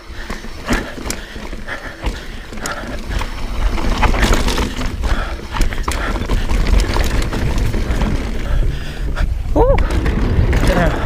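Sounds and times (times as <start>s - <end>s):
bike rattling over bumps: 0.0s - 11.0s
bike tyres on dirt: 0.0s - 11.0s
wind rumbling on microphone: 0.0s - 11.0s.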